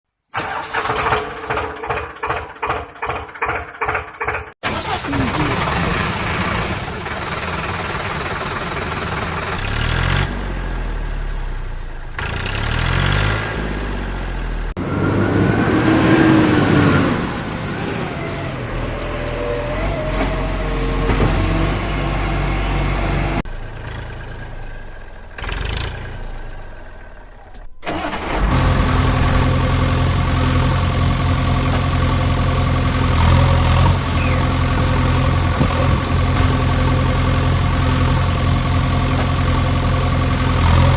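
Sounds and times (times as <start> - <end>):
vehicle engines running: 1.1 - 40.9
engine revving: 4.6 - 40.9.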